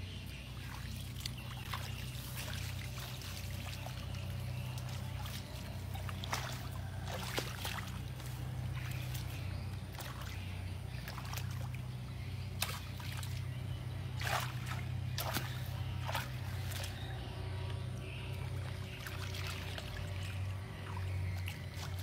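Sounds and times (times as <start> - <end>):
steady low hum: 0.0 - 22.0
water splashing and trickling: 0.0 - 22.0.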